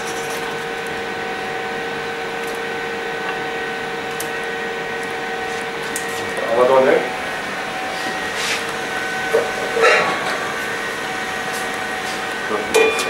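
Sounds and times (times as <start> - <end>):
extractor fan humming: 0.0 - 13.0.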